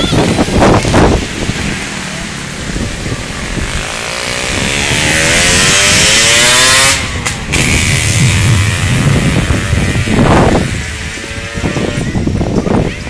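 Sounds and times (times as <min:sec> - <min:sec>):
wind noise on microphone: 0:00.0 - 0:13.0
vehicle engine revving: 0:00.2 - 0:12.6.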